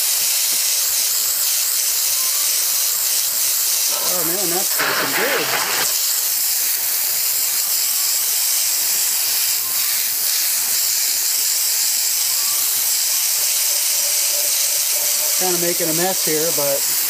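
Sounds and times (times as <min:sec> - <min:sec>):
hose spraying water: 0:00.0 - 0:17.0.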